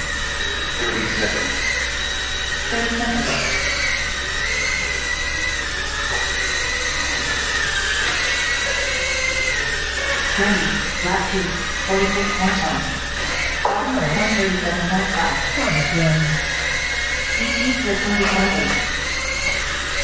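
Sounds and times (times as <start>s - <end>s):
racing drones buzzing: 0.0s - 20.0s.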